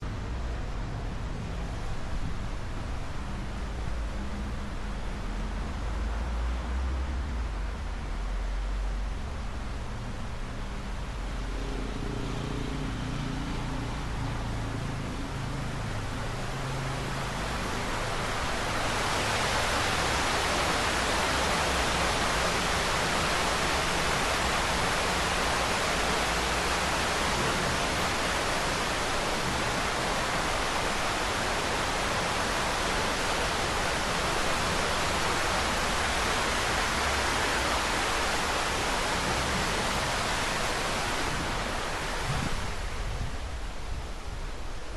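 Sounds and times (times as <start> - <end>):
water rushing and splashing: 0.0 - 44.9.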